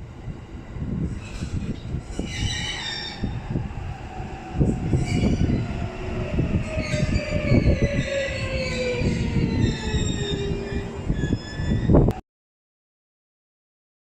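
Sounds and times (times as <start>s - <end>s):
wheels rumbling on rails: 0.1s - 12.2s.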